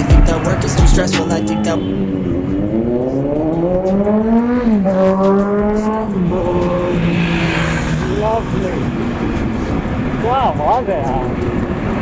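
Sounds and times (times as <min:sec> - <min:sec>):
motorcycle engine accelerating hard: 0:01.7 - 0:12.0.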